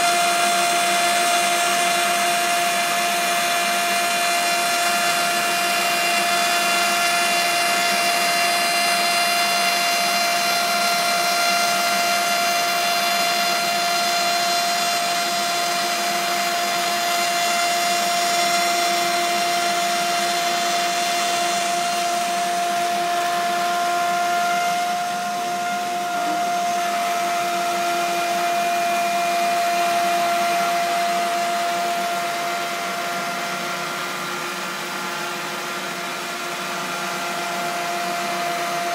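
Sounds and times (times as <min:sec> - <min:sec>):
electric power tool motor whining: 0:00.0 - 0:38.9.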